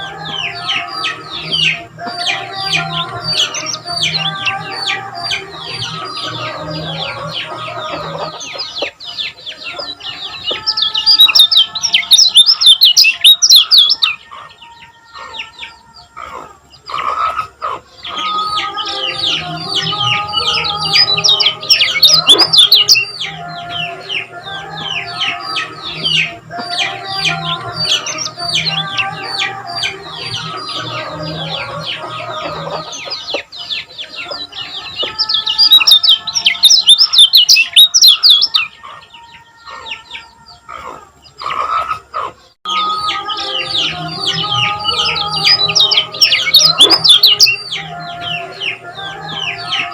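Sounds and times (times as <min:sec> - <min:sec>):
birds chirping and twittering: 0:00.0 - 0:49.9.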